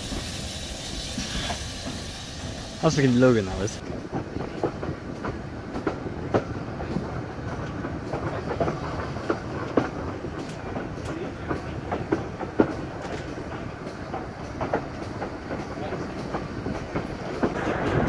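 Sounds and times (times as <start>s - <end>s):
train low rumble: 0.0s - 18.0s
train wheels clicking over rail joints: 0.0s - 18.0s.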